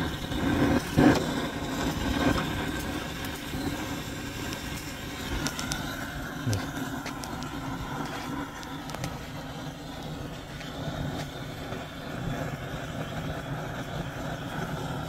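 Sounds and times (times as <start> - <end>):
wood fire hissing and crackling: 0.0 - 15.0.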